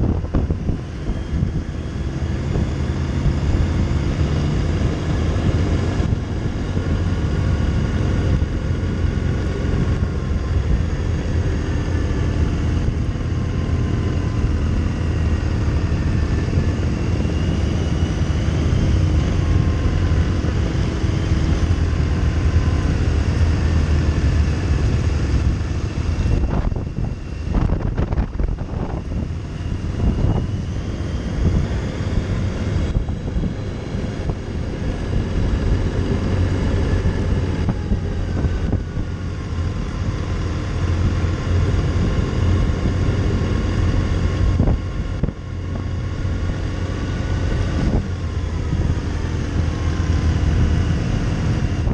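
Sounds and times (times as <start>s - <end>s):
motorcycle engine drone: 0.0s - 51.9s
wind rush: 0.0s - 51.9s.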